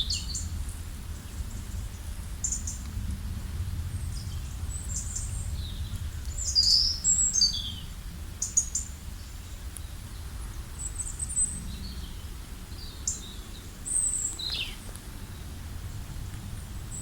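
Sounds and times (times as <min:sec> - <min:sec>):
small birds chirping: 0:00.0 - 0:02.9, 0:04.0 - 0:17.0
low steady rumble: 0:00.0 - 0:17.0.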